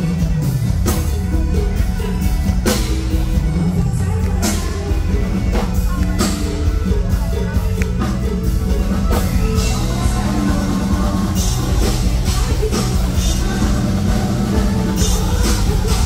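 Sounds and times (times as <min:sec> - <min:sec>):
drum kit beat: 0:00.0 - 0:16.0
keyboard: 0:00.0 - 0:16.0
live band playing upbeat music: 0:00.0 - 0:16.0.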